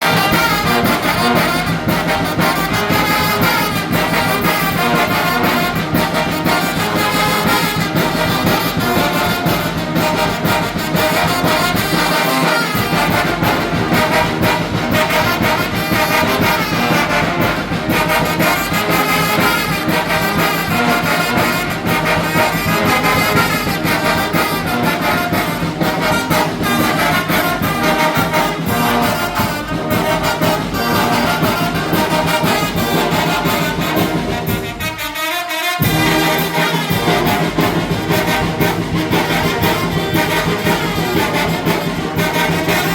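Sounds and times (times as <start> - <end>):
brass band playing: 0.0 - 42.9.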